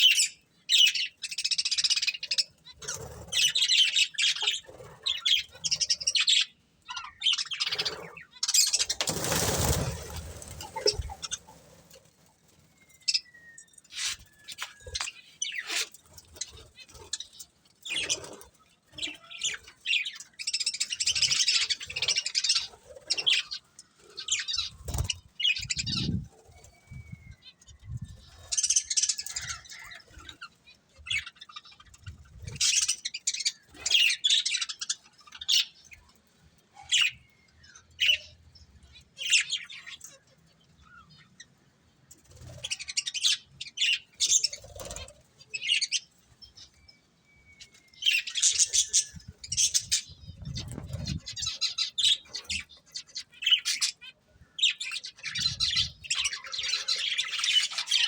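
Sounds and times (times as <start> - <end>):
budgerigars chirping and chattering: 0.0 - 41.6, 42.2 - 58.0.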